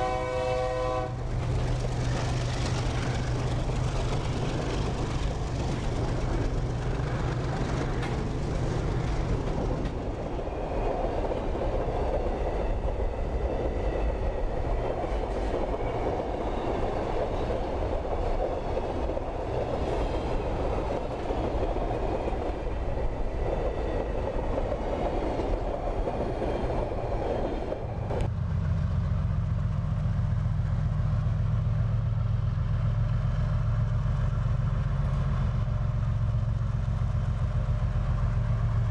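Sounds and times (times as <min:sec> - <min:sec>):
diesel locomotive engine drone: 0:00.0 - 0:38.9
train wagons rumbling and rattling: 0:00.0 - 0:38.9.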